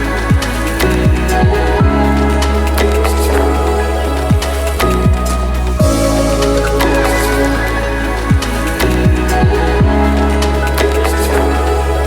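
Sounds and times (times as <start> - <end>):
sustained synth chords: 0.0 - 12.0.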